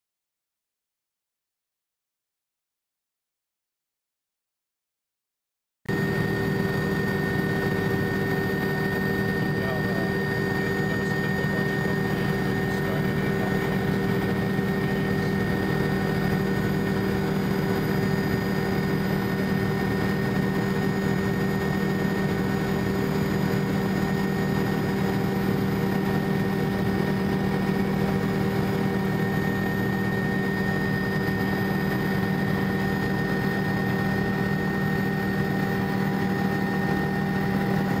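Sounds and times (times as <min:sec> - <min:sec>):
aircraft engine drone in cabin: 0:05.9 - 0:38.0.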